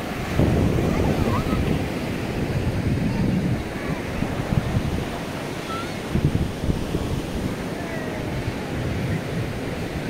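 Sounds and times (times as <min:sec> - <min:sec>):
surf breaking on beach: 0:00.0 - 0:10.0
wind buffeting microphone: 0:00.0 - 0:10.0.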